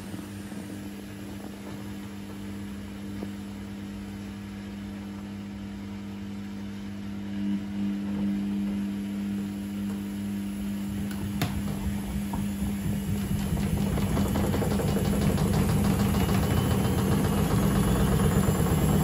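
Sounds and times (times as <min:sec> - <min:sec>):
washing machine spinning hum: 0:00.0 - 0:19.0.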